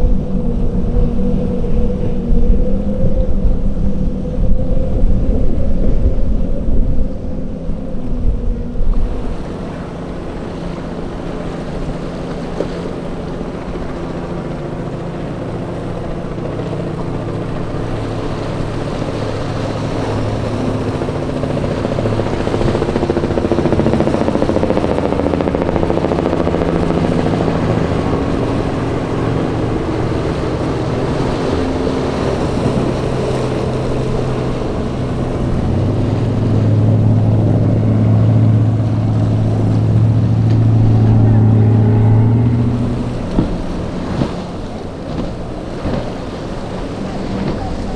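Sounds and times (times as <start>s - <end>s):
motorboat engines running: 0.0s - 47.9s.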